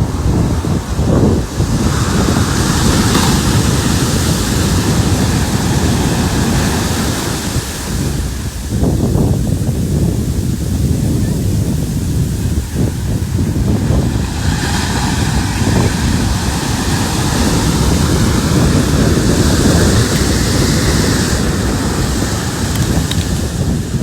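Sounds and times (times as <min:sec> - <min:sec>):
ocean waves breaking: 0:00.0 - 0:24.0
wind rumble on microphone: 0:00.0 - 0:24.0.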